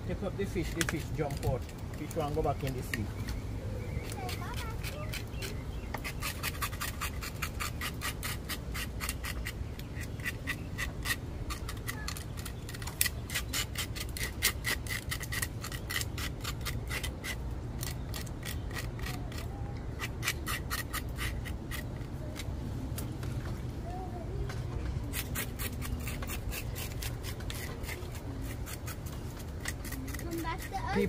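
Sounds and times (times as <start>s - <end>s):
scraping fish scales: 4.0s - 23.5s, 25.0s - 31.0s.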